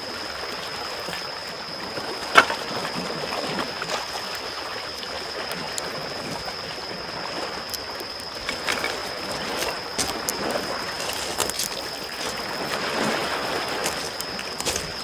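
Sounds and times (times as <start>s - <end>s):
small waves washing on shore: 0.0s - 15.0s.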